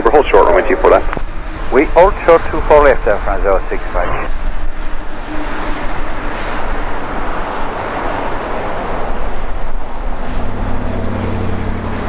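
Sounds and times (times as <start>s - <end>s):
jet engines rushing: 0.0s - 12.0s
low hum: 0.0s - 12.0s.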